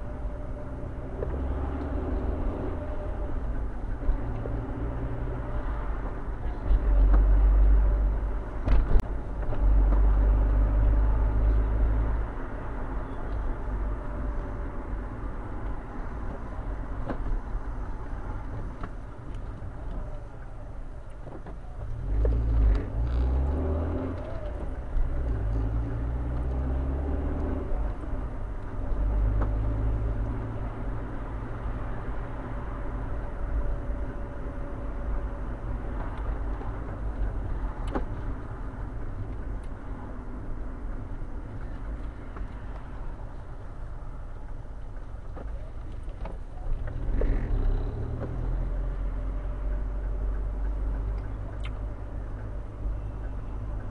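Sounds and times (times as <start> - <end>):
car engine from inside cabin: 0.0 - 53.9.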